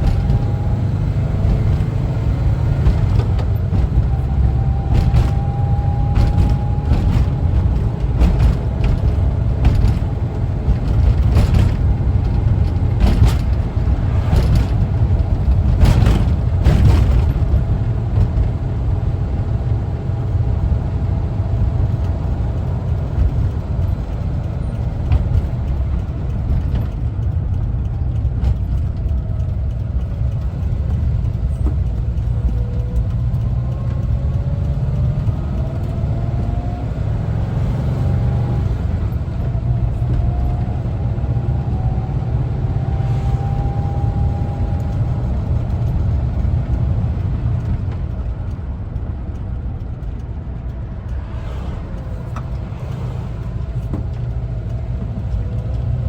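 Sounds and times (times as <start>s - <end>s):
sharp rattles and knocks: 0.0s - 56.0s
van engine and road rumble: 0.0s - 56.0s.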